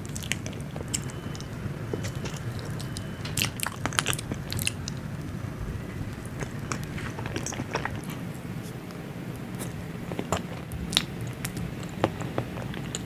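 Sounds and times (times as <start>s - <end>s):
steady low hum: 0.0s - 13.0s
sticky wet chewing: 0.0s - 13.0s.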